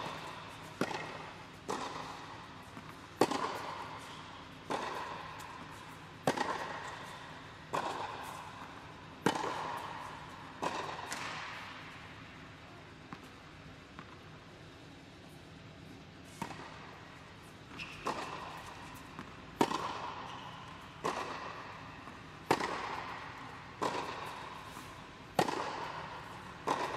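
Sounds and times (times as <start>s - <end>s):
racket striking tennis ball: 0.0s - 12.0s, 16.3s - 26.9s
tennis ball bouncing: 0.0s - 12.2s, 15.9s - 26.9s.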